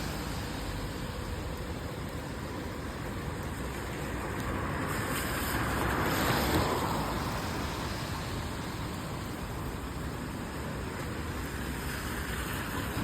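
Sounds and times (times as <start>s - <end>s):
rain: 0.0s - 13.0s
tyres hissing on wet road: 0.0s - 13.0s.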